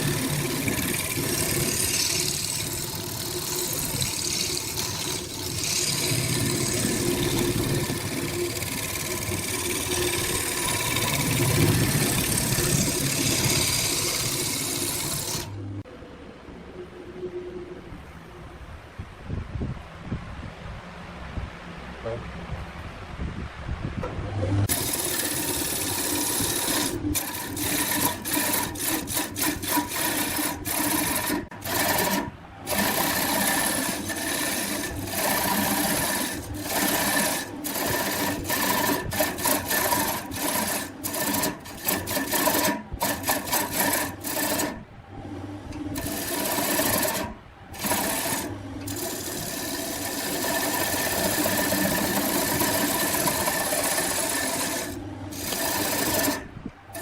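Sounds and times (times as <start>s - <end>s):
tool rasping on spinning wood: 0.0s - 15.7s, 24.7s - 44.9s, 45.8s - 57.0s
wood lathe motor hum: 0.0s - 15.8s, 24.7s - 57.0s.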